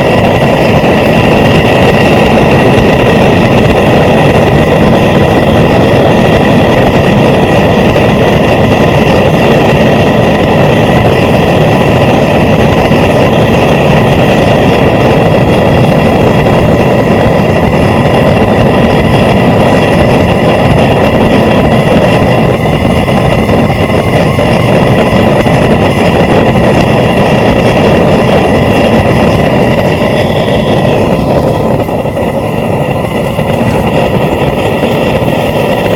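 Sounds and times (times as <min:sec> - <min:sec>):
propane forge burner roaring: 0:00.0 - 0:35.9.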